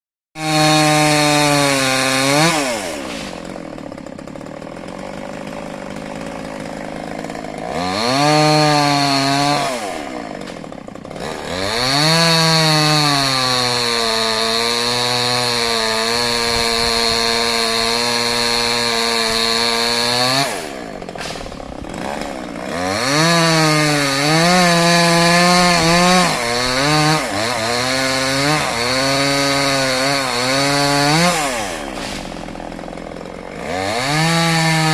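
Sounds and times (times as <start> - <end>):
chainsaw cutting wood: 0.4 - 34.9.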